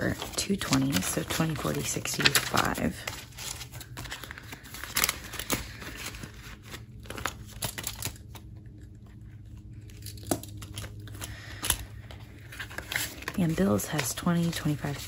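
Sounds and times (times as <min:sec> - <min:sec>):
paper banknotes rustling: 0:00.0 - 0:15.0.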